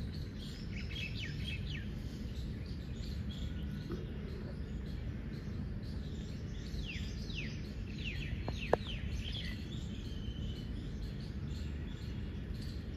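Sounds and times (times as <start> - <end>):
bird chirping: 0.0 - 12.9
outdoor background noise: 0.0 - 12.9.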